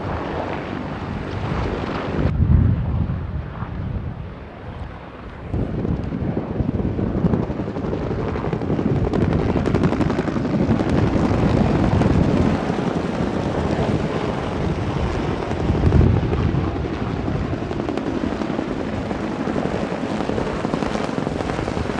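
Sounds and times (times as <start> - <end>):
helicopters flying overhead: 0.0 - 21.9.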